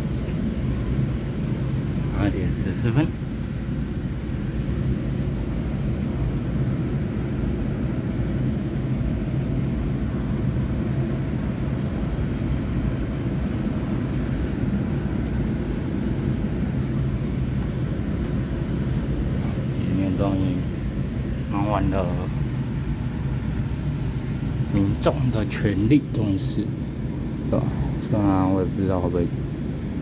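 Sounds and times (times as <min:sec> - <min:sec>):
train carriage rumble and hum: 0:00.0 - 0:30.0.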